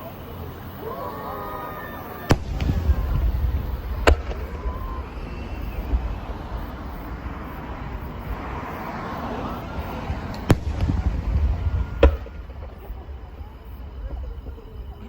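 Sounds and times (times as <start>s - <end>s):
fireworks bangs: 1.5s - 15.0s
low rumbling: 2.0s - 15.0s.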